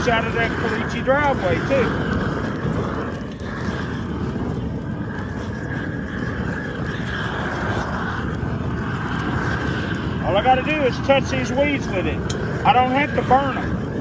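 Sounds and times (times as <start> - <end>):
gas flame rushing: 0.0 - 14.0.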